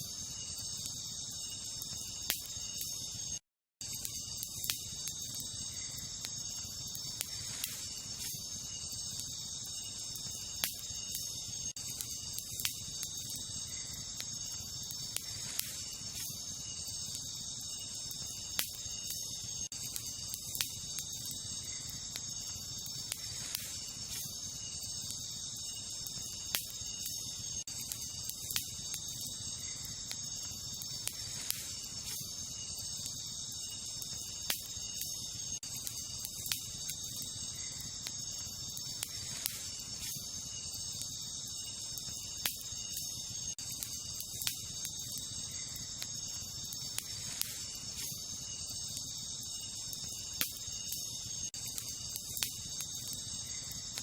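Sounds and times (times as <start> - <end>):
campfire crackling and popping: 0.0 - 54.0
night insects chirping: 0.0 - 54.0.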